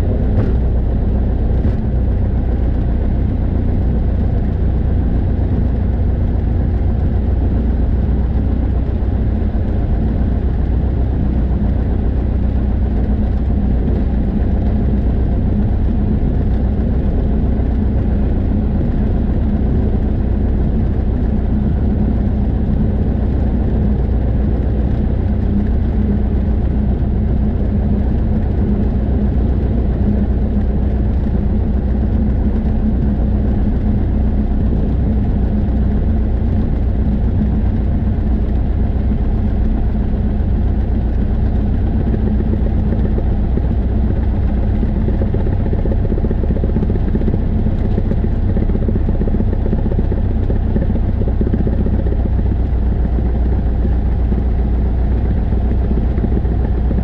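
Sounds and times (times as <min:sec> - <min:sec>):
light airplane engine and propeller: 0:00.0 - 0:57.0.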